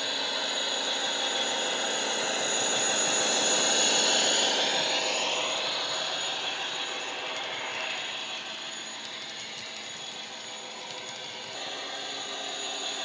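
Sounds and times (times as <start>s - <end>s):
model train diesel engine sound: 0.0s - 13.0s.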